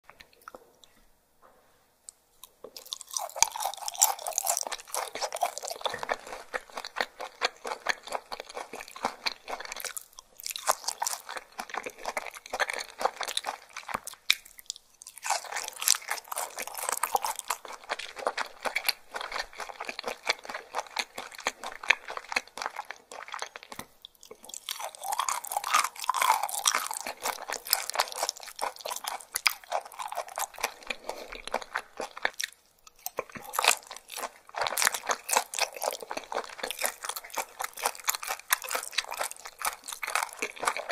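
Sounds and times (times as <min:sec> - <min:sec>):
person chewing raw fish: 0:02.4 - 0:40.9.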